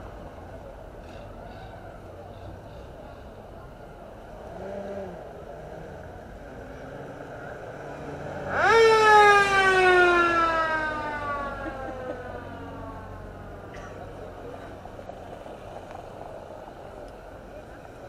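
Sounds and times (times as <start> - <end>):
jeep passing on cobblestones: 0.0 - 18.0.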